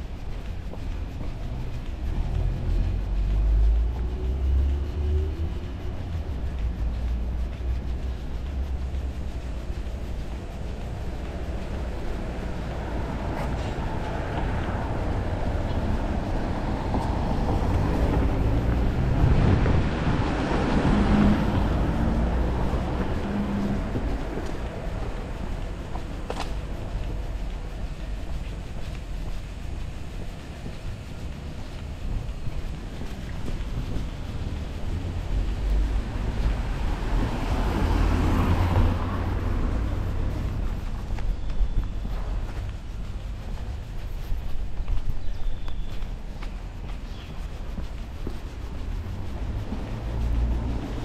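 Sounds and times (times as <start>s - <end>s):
vehicle engine and tyres passing: 0.0s - 51.0s.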